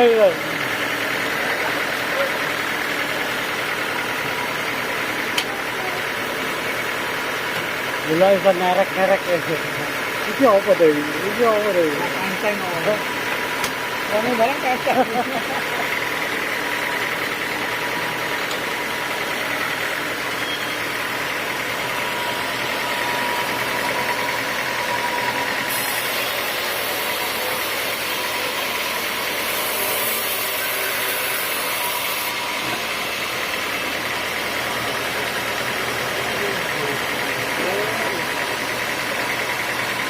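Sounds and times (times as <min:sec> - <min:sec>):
sawmill machinery drone: 0:00.0 - 0:40.0.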